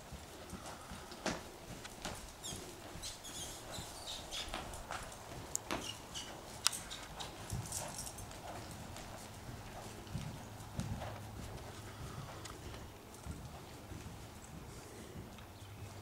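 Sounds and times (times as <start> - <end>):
horse hoofbeats on soft ground: 0.0 - 16.0.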